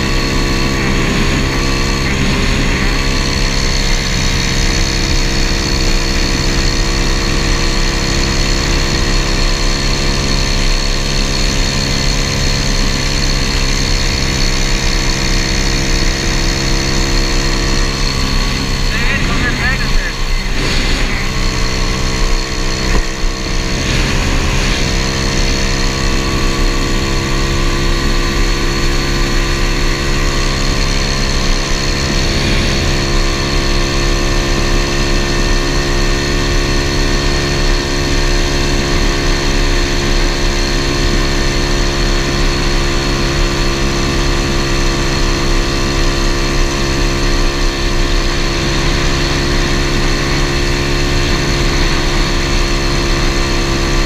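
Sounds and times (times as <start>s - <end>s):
small motorbike engine cruising: 0.0s - 54.0s.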